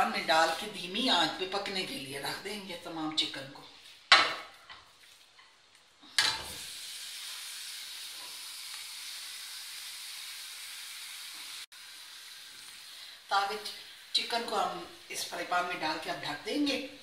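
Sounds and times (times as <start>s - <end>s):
chicken sizzling: 0.0s - 2.5s, 3.7s - 17.0s.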